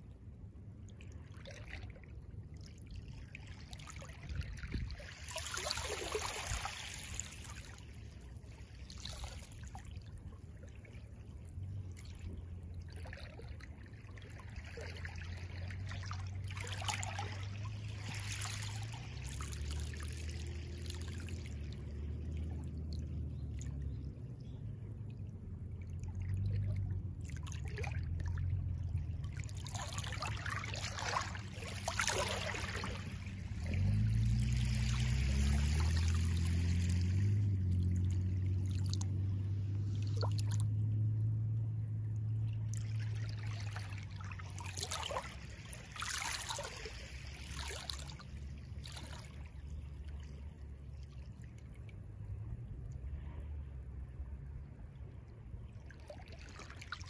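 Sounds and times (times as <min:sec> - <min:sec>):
low rumble: 0:00.0 - 0:57.0
small waves lapping: 0:00.0 - 0:57.0.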